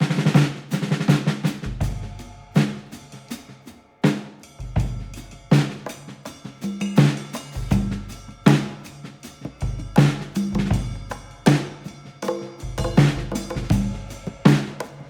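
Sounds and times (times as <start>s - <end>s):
snare and bass drum beat: 0.0s - 15.0s.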